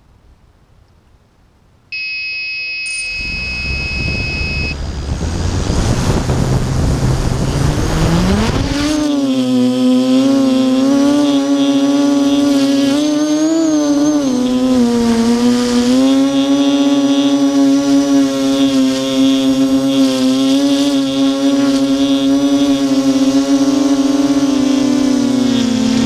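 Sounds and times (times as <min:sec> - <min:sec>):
quadcopter propellers whining: 0:02.0 - 0:26.0.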